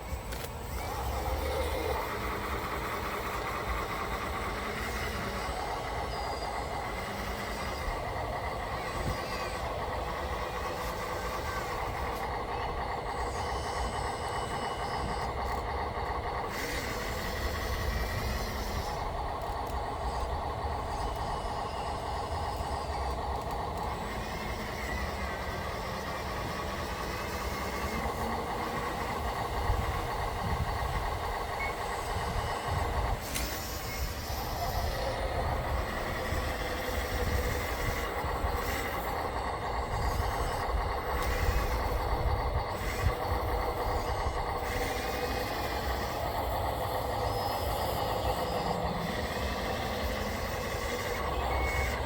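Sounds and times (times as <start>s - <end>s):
small electric motors whining: 0.0s - 52.0s.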